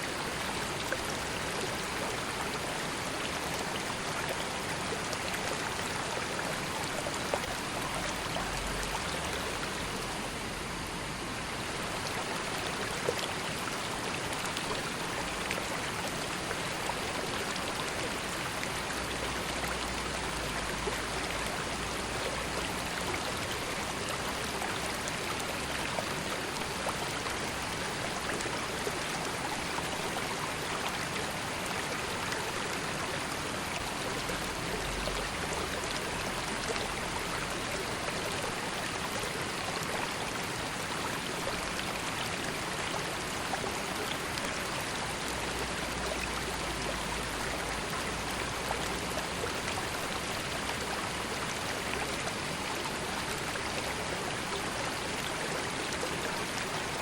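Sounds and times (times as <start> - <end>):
river water burbling: 0.0 - 57.0.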